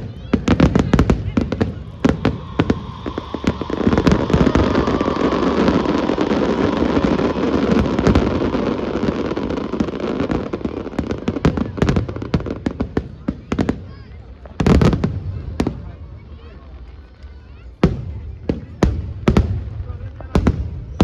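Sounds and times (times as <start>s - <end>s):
fireworks cracking and popping: 0.0s - 21.0s.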